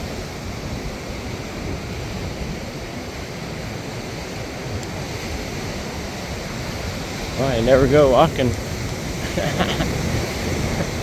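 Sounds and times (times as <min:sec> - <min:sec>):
ocean surf washing on beach: 0:00.0 - 0:11.0
wind rumbling on microphone: 0:00.0 - 0:11.0.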